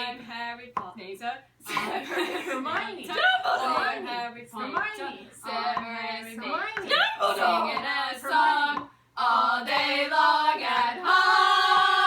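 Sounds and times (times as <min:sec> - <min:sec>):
women singing a cappella chant: 0:00.0 - 0:12.0.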